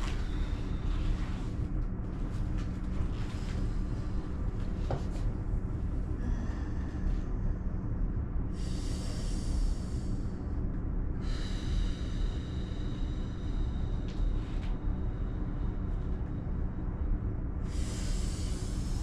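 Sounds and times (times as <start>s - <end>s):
steady low hum: 0.0s - 19.0s
person breathing heavily: 3.1s - 19.0s.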